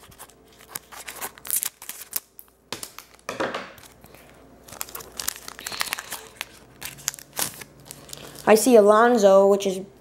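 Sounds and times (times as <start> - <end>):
foil wrapper crinkling: 0.0 - 8.9.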